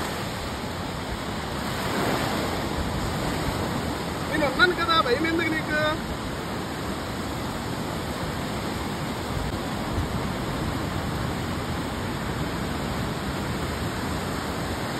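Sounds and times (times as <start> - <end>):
waves washing onto beach: 0.0 - 14.9.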